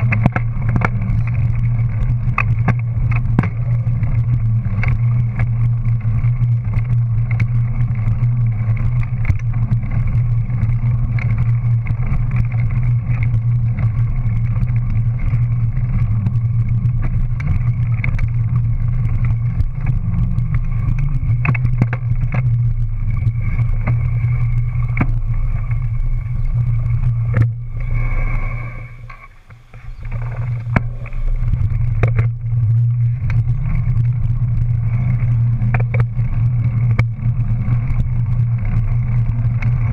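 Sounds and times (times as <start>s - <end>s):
small motor droning: 0.0s - 39.9s.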